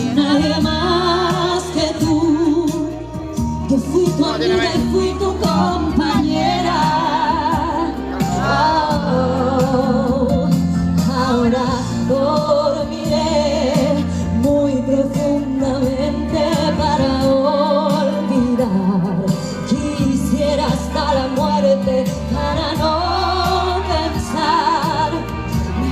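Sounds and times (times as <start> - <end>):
instrumental accompaniment with bass: 0.0 - 25.9
woman singing with vibrato: 0.0 - 25.9.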